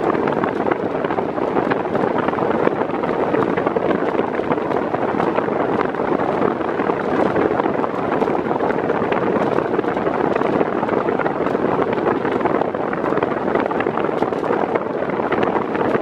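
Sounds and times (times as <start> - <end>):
fan blowing air: 0.0 - 16.0
wind buffeting microphone: 0.0 - 16.0.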